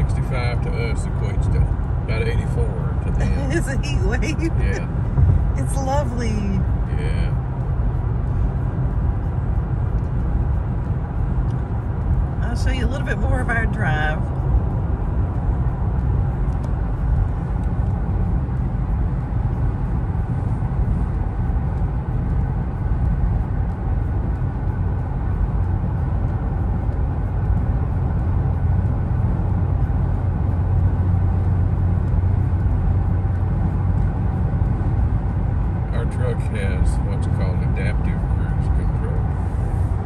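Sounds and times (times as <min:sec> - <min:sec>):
car cabin road noise: 0:00.0 - 0:40.0
low hum: 0:00.0 - 0:40.0.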